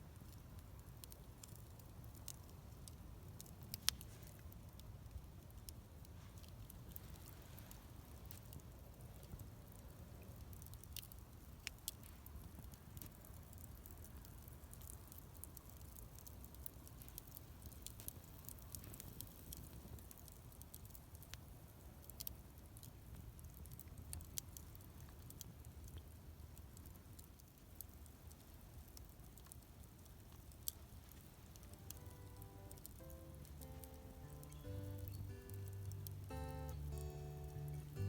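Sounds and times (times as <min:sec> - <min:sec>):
campfire crackling and popping: 0:00.0 - 0:38.0
low fire rumble: 0:00.0 - 0:38.0.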